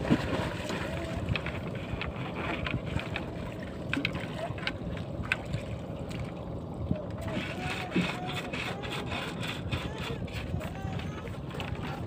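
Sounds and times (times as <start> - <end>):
water splashing around a boat: 0.0 - 12.0
wind rumbling on microphone: 0.0 - 12.0.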